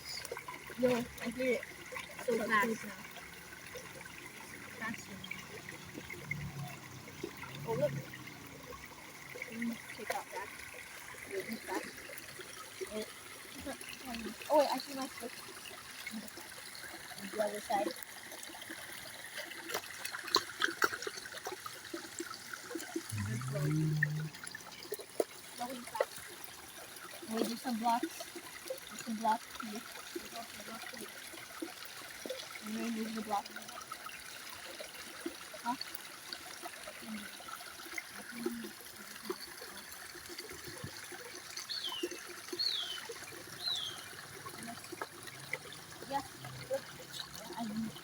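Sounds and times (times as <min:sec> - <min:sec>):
stream trickling and splashing: 0:00.0 - 0:48.0.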